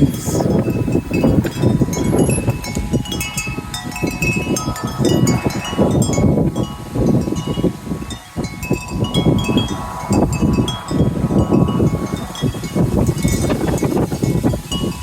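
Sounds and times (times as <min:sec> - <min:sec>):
wind chimes ringing: 0:00.0 - 0:15.0
wind rumbling on microphone: 0:00.0 - 0:15.0.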